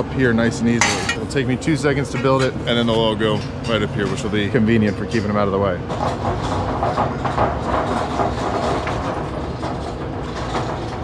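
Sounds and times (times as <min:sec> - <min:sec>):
metal frame and boards rattling: 0:00.7 - 0:01.5, 0:02.1 - 0:11.0.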